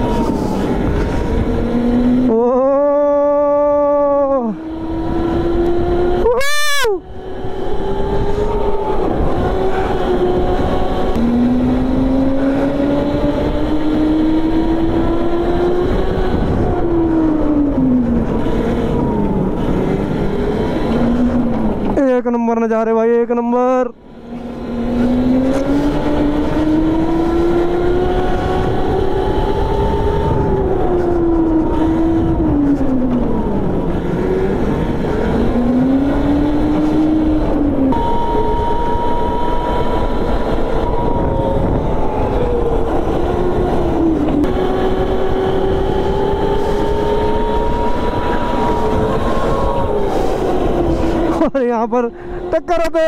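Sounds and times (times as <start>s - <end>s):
go-kart engine: 0.0s - 22.6s, 23.4s - 53.0s.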